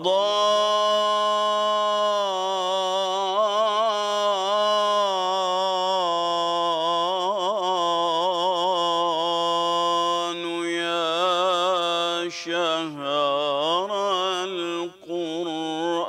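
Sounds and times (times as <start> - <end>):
man chanting solo: 0.0 - 16.0.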